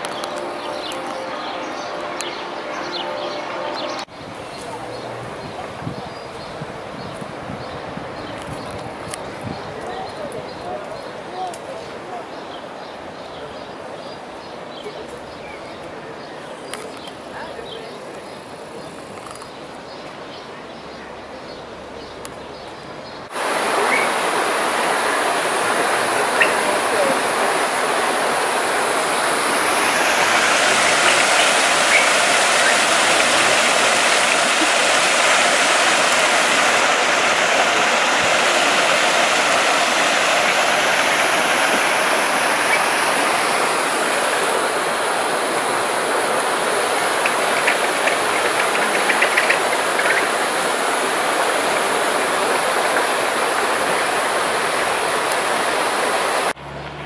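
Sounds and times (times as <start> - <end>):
rushing water: 0.0 - 56.8.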